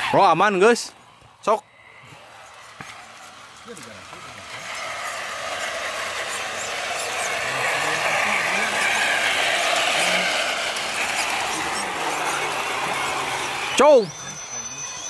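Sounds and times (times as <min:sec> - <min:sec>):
toy car motor whirring: 0:02.0 - 0:15.0.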